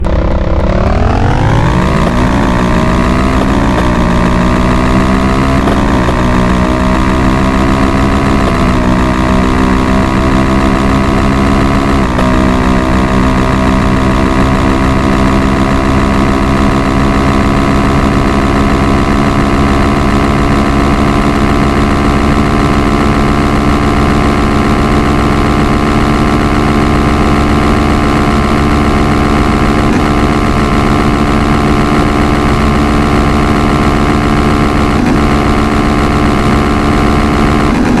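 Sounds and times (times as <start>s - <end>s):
motorcycle engine at full throttle: 0.0s - 38.0s.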